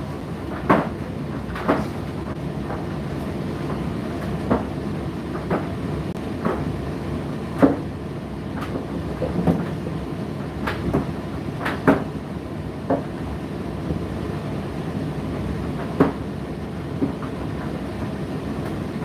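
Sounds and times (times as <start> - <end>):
tumble dryer rumbling: 0.0 - 19.0.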